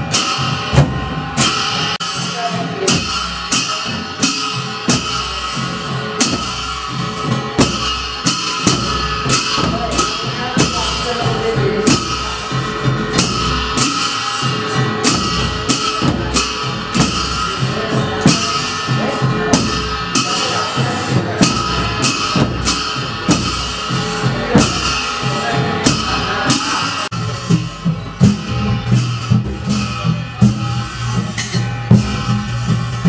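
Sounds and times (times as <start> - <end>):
cymbal clashes: 0.0 - 33.0
drums beating: 0.0 - 33.0.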